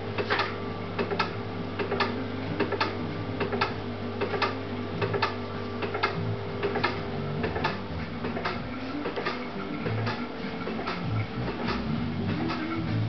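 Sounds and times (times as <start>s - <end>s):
steady electrical hum: 0.0s - 13.0s
laboratory equipment double clicks: 0.2s - 12.7s.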